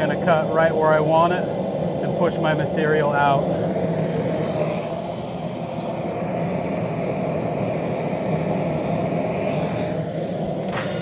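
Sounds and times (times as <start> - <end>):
low mechanical drone of machinery: 0.0 - 11.0.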